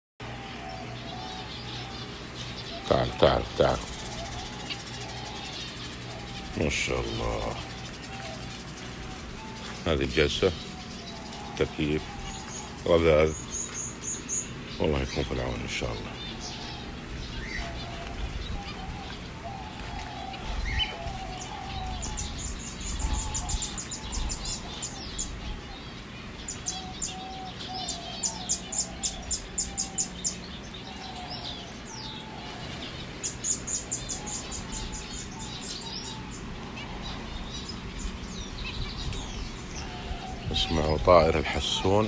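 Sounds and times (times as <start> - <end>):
finch trilling: 0.2 - 42.0
soft wavering bird calls: 0.2 - 42.0.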